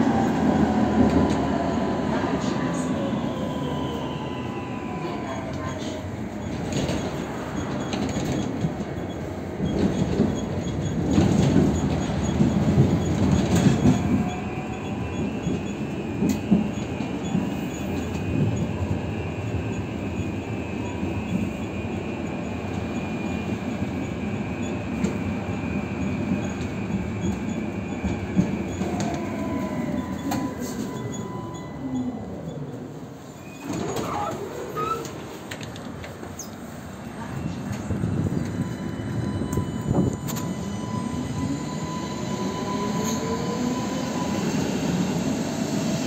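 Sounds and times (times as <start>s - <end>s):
tram running on rails: 0.0s - 46.0s.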